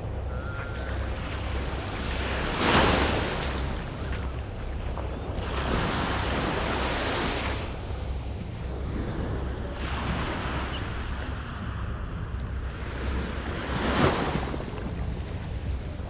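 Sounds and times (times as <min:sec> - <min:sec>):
low wind rumble on microphone: 0:00.0 - 0:16.0.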